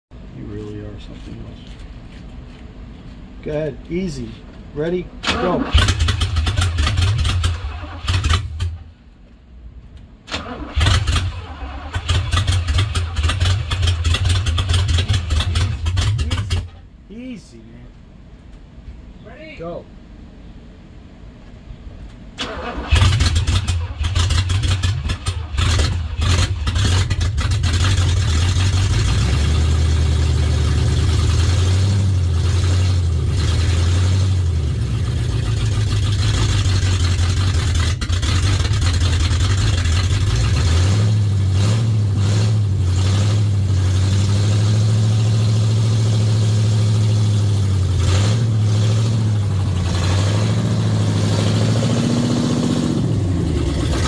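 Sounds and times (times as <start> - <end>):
car engine starting and idling: 3.5 - 17.0, 21.4 - 54.0.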